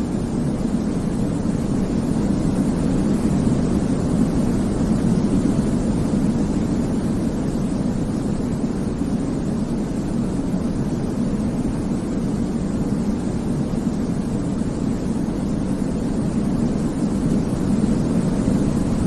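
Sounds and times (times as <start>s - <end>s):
deep white noise rumble: 0.0s - 19.0s.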